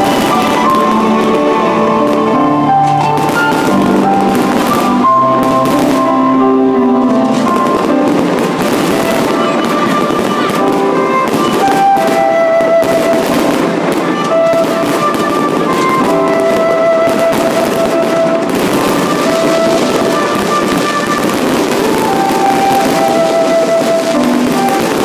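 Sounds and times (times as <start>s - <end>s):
fireworks bursting and crackling: 0.0s - 25.0s
loud music with held notes: 0.0s - 25.0s.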